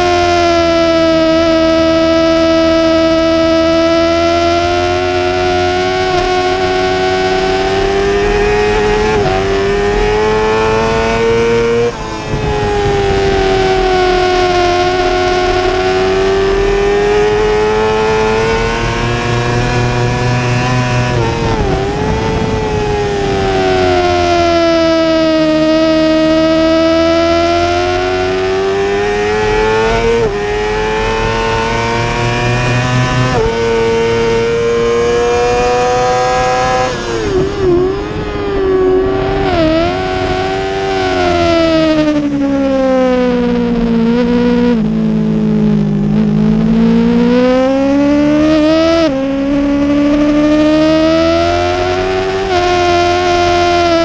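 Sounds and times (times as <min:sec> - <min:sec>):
motorcycle engine at racing revs: 0:00.0 - 0:54.0.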